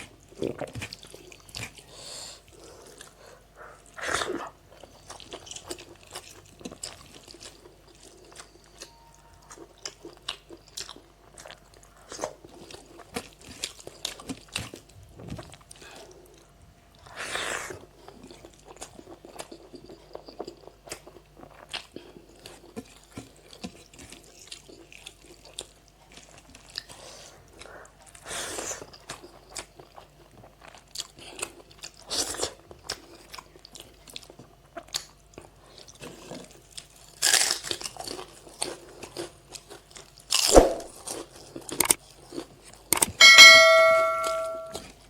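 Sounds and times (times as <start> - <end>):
person chewing: 0.2 - 8.9, 9.5 - 16.4, 18.0 - 28.2, 28.8 - 43.1.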